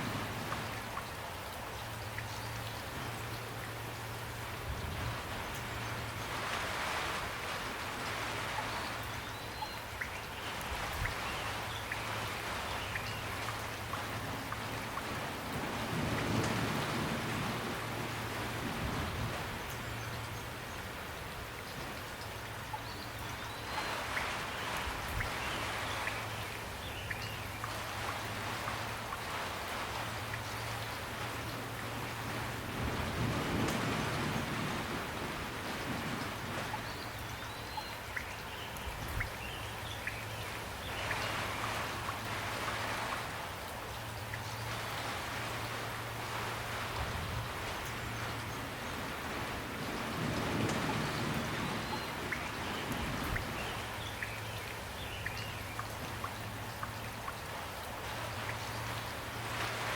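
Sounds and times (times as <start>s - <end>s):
rain falling: 0.0s - 59.9s
raindrops pattering: 0.0s - 59.9s.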